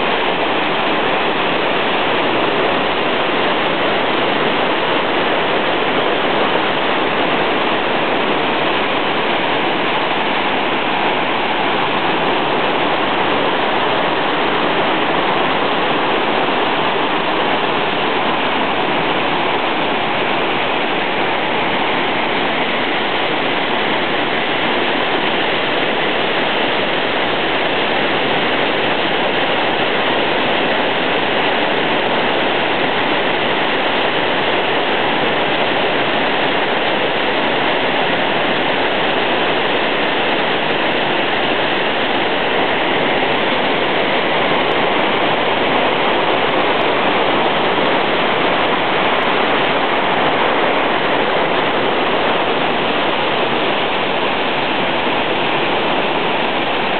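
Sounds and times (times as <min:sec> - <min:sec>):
waterfall and rushing river: 0:00.0 - 0:56.9.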